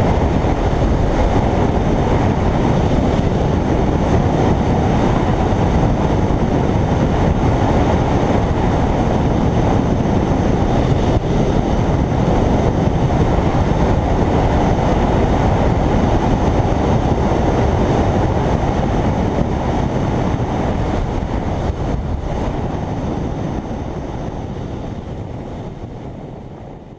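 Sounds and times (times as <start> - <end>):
road noise: 0.0 - 26.9
wind rush over microphone: 0.0 - 26.9.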